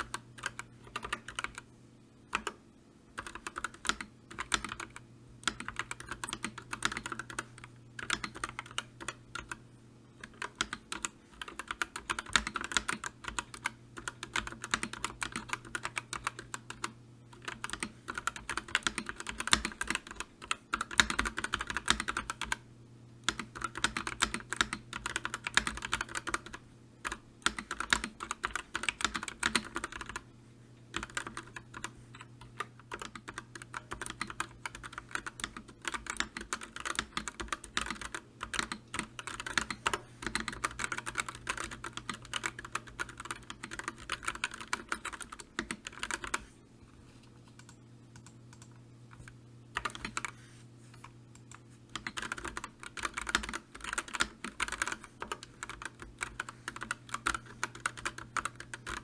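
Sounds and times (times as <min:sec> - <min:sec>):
computer keyboard typing: 0:00.0 - 0:01.7, 0:02.3 - 0:09.6, 0:10.2 - 0:22.6, 0:23.2 - 0:30.3, 0:30.9 - 0:46.5, 0:47.5 - 0:50.4, 0:51.0 - 0:59.0.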